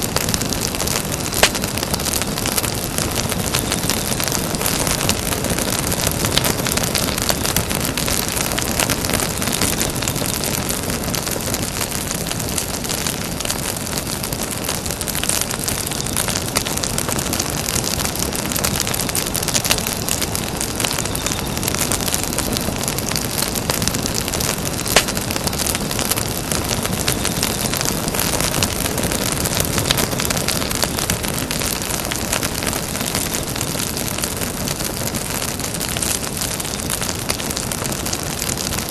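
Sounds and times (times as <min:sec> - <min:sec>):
campfire crackling and popping: 0:00.0 - 0:38.9
campfire hiss: 0:00.0 - 0:38.9.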